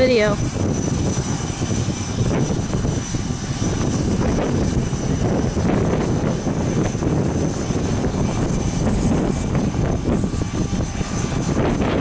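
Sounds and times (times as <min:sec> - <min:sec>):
high-pitched whine: 0:00.0 - 0:12.0
wind buffeting microphone: 0:00.0 - 0:12.0.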